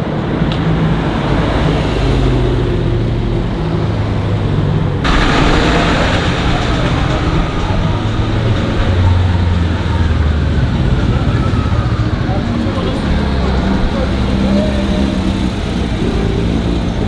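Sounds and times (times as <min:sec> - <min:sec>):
car engines: 0:00.0 - 0:17.0
street traffic noise: 0:00.0 - 0:17.0.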